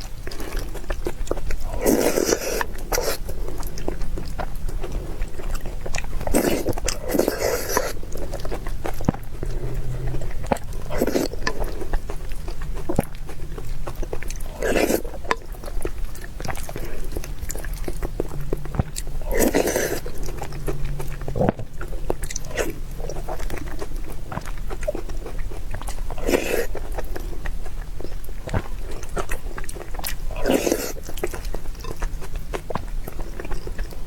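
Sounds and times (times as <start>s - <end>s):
wet mouth clicks: 0.0s - 32.9s
chewing and biting: 0.0s - 34.0s.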